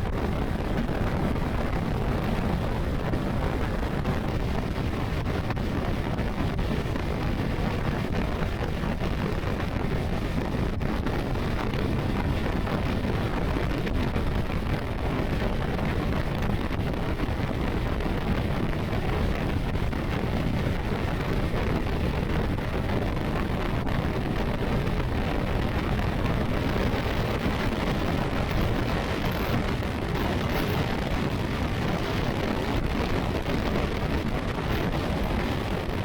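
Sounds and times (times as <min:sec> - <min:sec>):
wind rush on microphone: 0:00.0 - 0:36.0.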